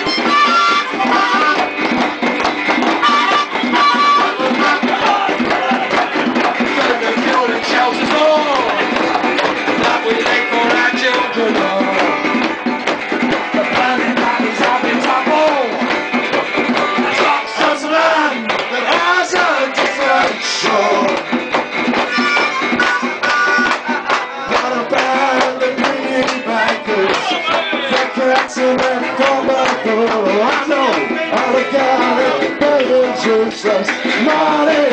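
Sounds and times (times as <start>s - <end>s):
person singing: 0.0s - 1.7s, 3.0s - 12.7s, 13.3s - 16.0s, 16.7s - 21.4s, 22.0s - 34.9s
drums and percussion: 0.0s - 34.9s.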